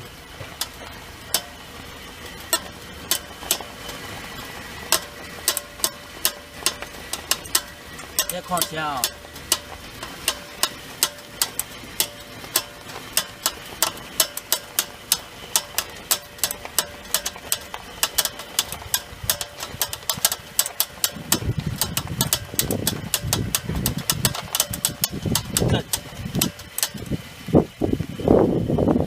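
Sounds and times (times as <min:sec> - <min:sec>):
rhythmic clicking from car wheels: 0:00.0 - 0:29.0.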